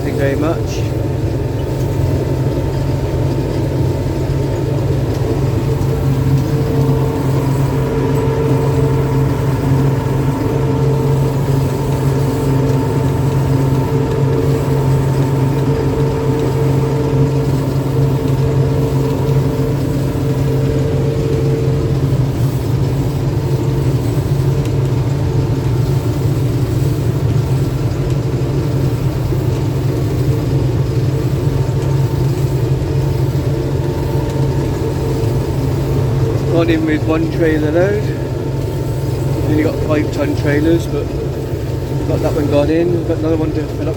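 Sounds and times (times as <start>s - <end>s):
combine harvester engine hum: 0.0s - 43.9s
machine whining tones: 0.0s - 43.9s.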